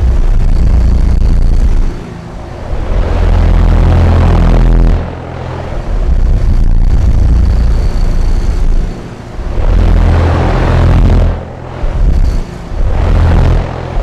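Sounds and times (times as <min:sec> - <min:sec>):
fan motor rumble and hum: 0:00.0 - 0:14.0.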